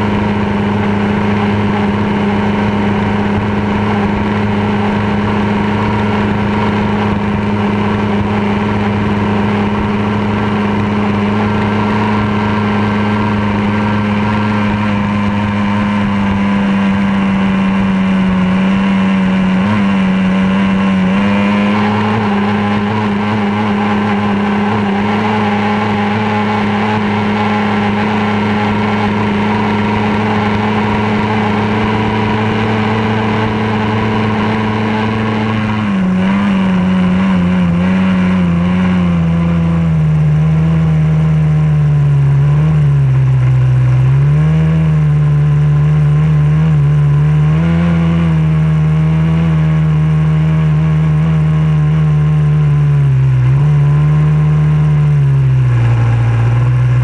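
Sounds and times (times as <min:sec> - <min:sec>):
outboard motor running high pitch: 0:00.0 - 0:57.0.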